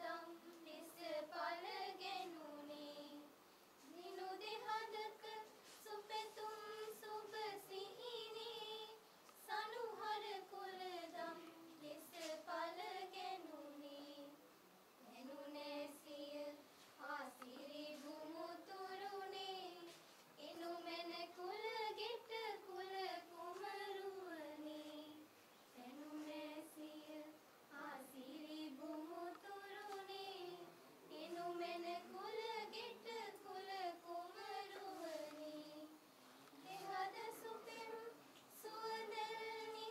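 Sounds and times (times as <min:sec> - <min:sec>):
girls singing together: 0:00.0 - 0:14.4, 0:15.0 - 0:39.9.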